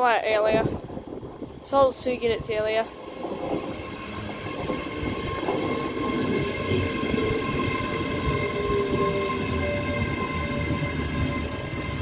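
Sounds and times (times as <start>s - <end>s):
electric train whine: 0.0s - 12.0s
train wheels rumbling: 0.0s - 12.0s.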